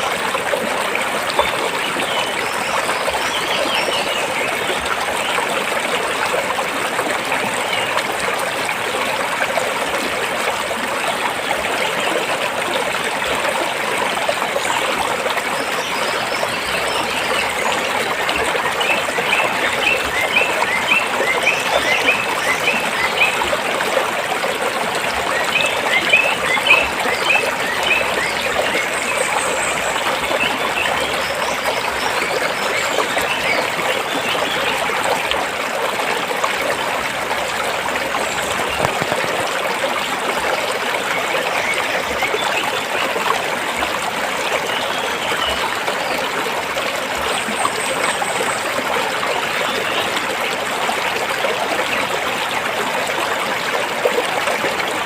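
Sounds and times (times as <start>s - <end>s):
stream trickling between rocks: 0.0s - 55.0s.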